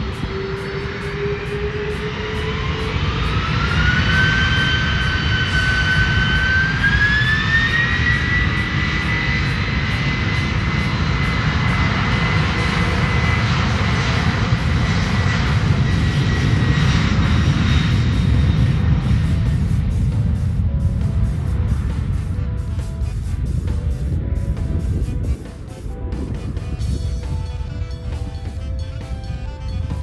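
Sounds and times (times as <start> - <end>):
jet engines spooling up: 0.0 - 29.4.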